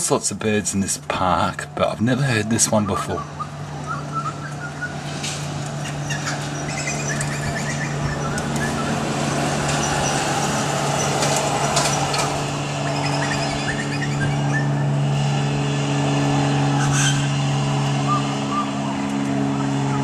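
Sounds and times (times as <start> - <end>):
aircraft droning overhead: 0.0 - 20.0
birds chirping and twittering: 1.7 - 15.5, 16.1 - 20.0.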